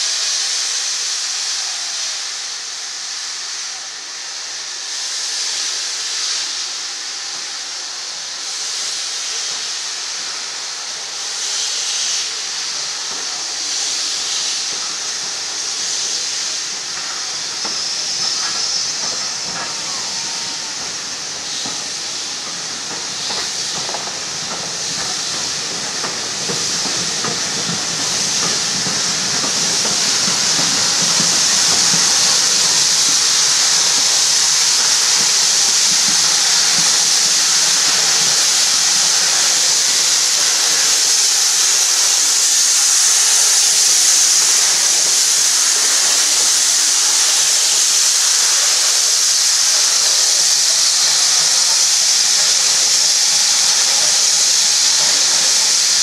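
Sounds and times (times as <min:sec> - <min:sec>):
rumble of train coaches: 0:00.0 - 0:56.0
steam locomotive hissing: 0:00.0 - 0:56.0.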